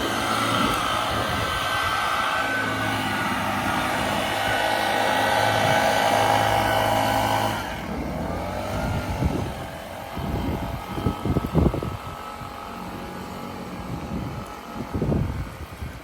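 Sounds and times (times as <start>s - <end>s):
lawn mower running: 0.0s - 16.0s.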